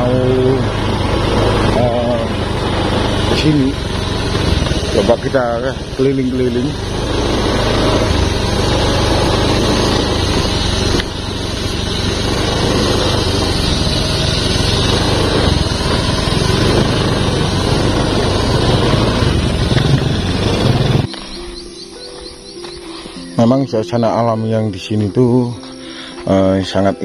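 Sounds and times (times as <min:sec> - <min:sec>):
small motorcycle engine running: 0:00.0 - 0:23.4
road noise on dirt track: 0:00.0 - 0:27.0.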